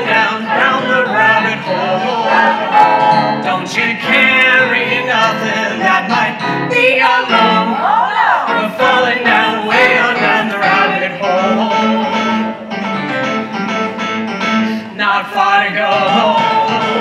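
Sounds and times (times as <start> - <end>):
musical theatre dance music: 0.0 - 17.0.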